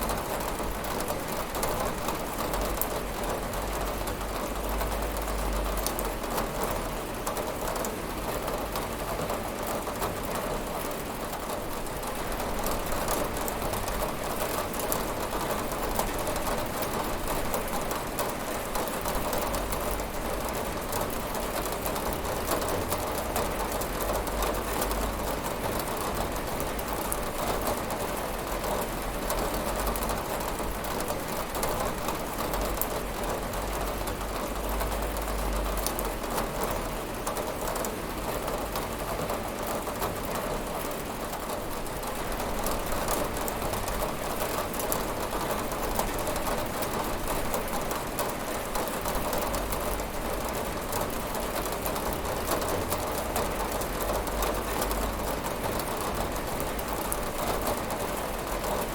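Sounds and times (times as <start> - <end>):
rain pattering on a window: 0.0 - 58.9.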